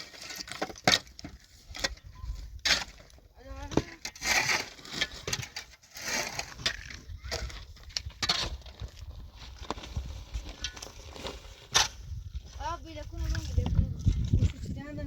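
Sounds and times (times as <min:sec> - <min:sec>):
hard objects clattering: 0:00.0 - 0:12.3.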